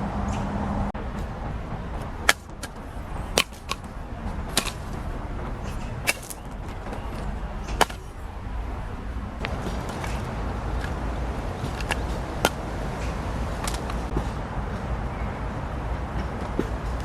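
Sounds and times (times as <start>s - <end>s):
low steady rumble: 0.0s - 14.1s.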